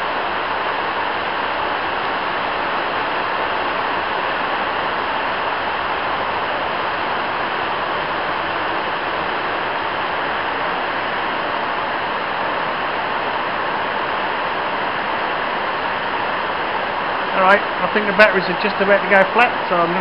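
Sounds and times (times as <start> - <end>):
heavy rain on a roof: 0.0 - 20.0.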